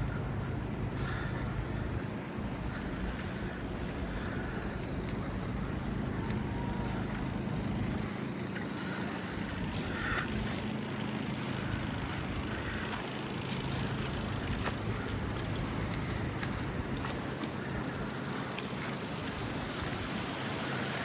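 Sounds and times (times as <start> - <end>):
tyres on slushy pavement: 0.0 - 21.0
vehicle engines humming: 0.0 - 21.0.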